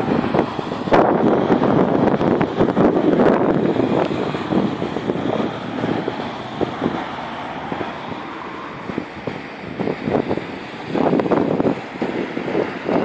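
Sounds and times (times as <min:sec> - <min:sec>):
road traffic: 0:00.0 - 0:13.0
wind buffeting microphone: 0:00.0 - 0:13.0.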